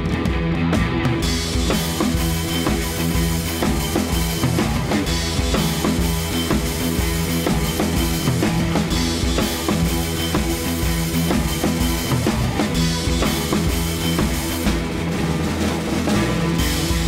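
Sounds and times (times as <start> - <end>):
bass: 0.0 - 17.0
drum kit beat: 0.0 - 17.0
rock music: 0.0 - 17.0.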